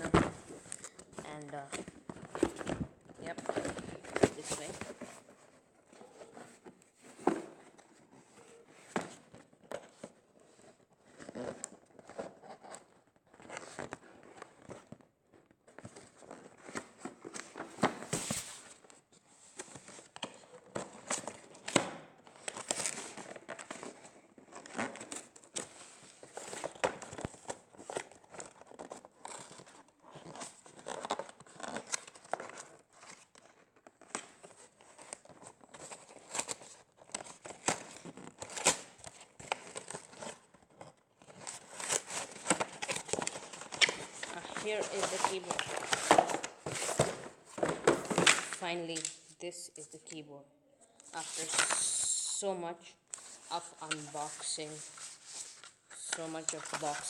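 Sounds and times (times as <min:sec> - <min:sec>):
packaging crinkling and rustling: 0:00.0 - 0:49.3, 0:51.0 - 0:52.2, 0:53.1 - 0:57.0.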